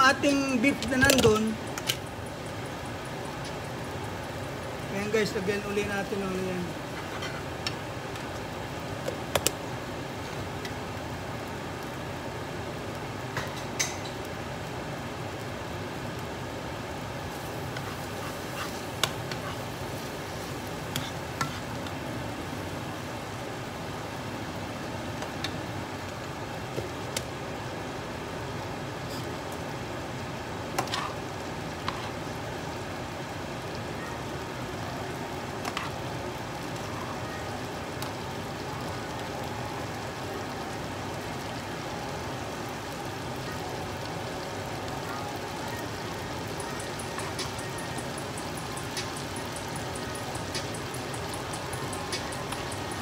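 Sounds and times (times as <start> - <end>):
beef sizzling in a skillet: 0.3 - 27.2, 34.6 - 53.0.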